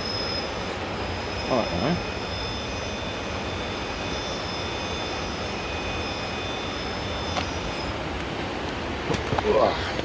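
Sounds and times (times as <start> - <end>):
electric motor whine: 0.0 - 10.0
rushing background noise: 0.0 - 10.0.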